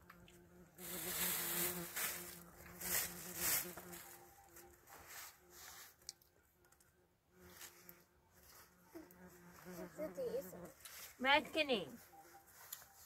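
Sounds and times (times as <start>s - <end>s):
fly buzzing: 0.0s - 6.1s, 7.2s - 13.0s.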